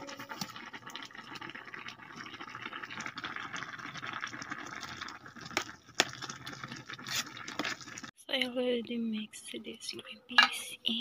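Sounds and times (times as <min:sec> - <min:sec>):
water boiling: 0:00.0 - 0:11.0.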